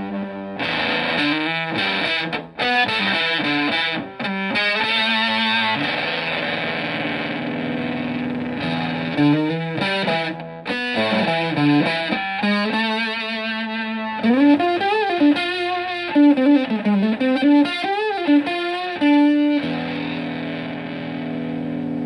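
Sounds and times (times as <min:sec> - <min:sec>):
distorted electric guitar lead: 0:00.0 - 0:22.0.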